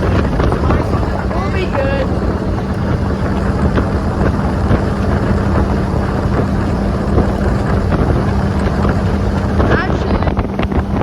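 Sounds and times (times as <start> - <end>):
boat motor running: 0.0 - 11.0
wind on microphone: 0.0 - 11.0.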